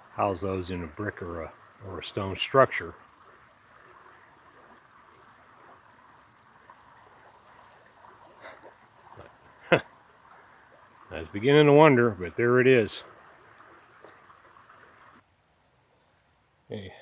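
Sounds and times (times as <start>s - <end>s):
forest creek rushing: 0.0s - 15.3s.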